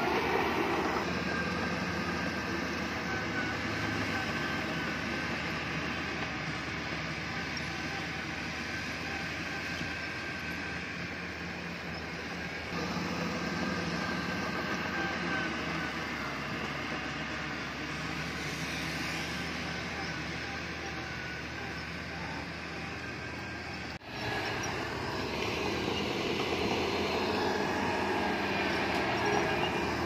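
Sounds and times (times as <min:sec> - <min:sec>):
diesel engine drone: 0:00.0 - 0:30.0.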